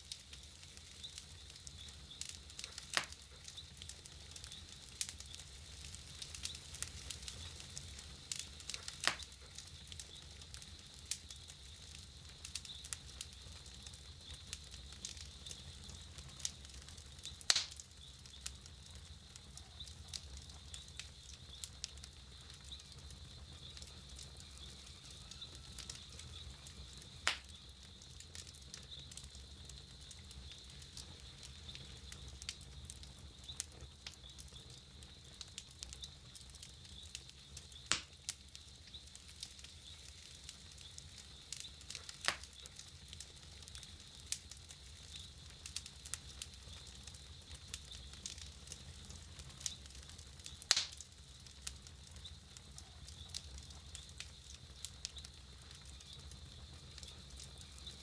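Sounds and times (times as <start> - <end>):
campfire crackling: 0.0 - 58.0
loud sharp pops of fire: 0.0 - 58.0.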